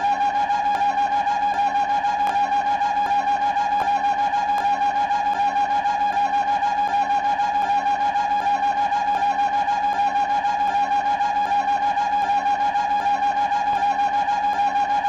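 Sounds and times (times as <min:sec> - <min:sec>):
pulsing reedy tone: 0:00.0 - 0:15.0.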